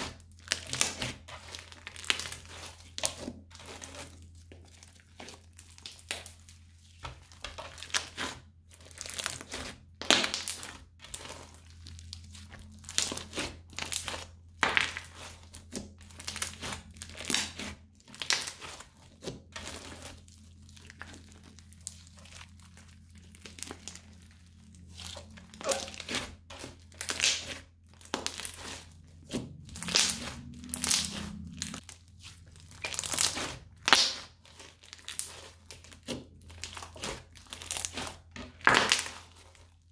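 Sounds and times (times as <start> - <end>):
crunchy slime crackling: 0.0 - 39.9.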